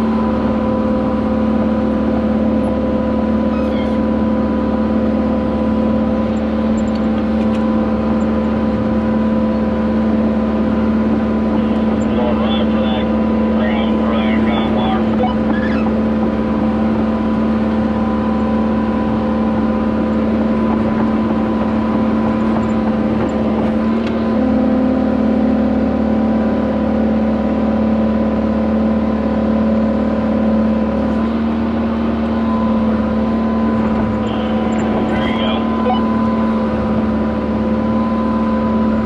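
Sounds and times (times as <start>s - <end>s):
machine engine droning under load: 0.0s - 39.0s.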